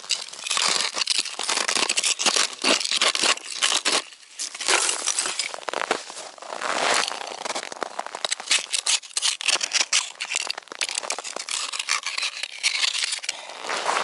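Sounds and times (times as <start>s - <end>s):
knife chipping and scraping ice: 0.0s - 6.0s, 6.7s - 14.0s.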